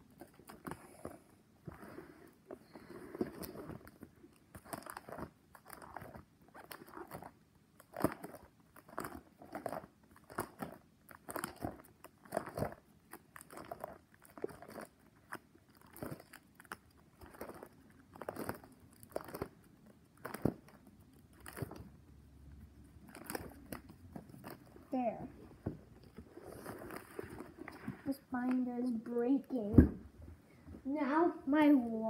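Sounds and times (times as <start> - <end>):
plastic binder pages crinkling: 0.0 - 25.0, 25.8 - 28.7.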